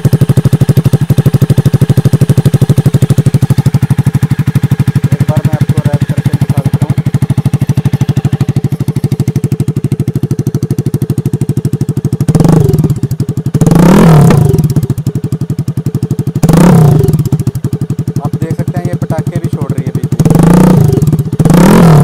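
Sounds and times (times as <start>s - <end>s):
motorcycle engine idling: 0.0s - 22.0s
motorcycle engine revving: 0.0s - 22.0s.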